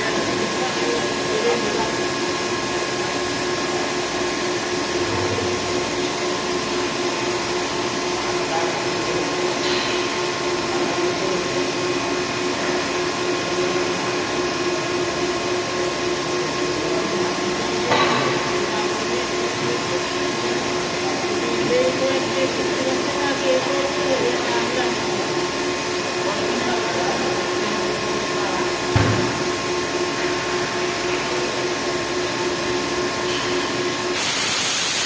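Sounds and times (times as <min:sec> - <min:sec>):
air conditioner whirring: 0:00.0 - 0:35.0.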